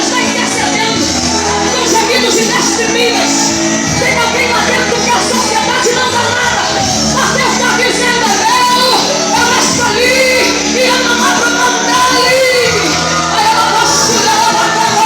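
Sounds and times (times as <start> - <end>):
band accompaniment: 0.0 - 15.0
woman singing gospel: 0.0 - 15.0.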